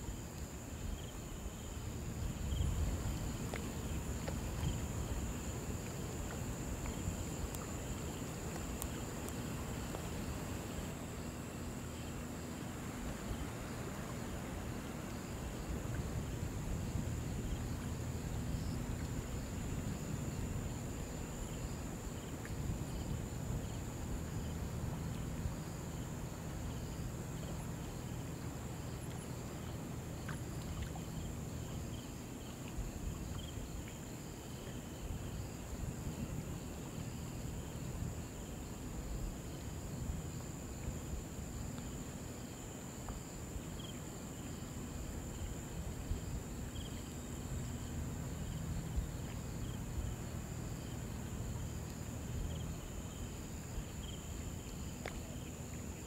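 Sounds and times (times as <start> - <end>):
faint insect chirping: 0.0 - 56.0
insects droning: 0.0 - 56.0
river water flowing: 0.0 - 56.0.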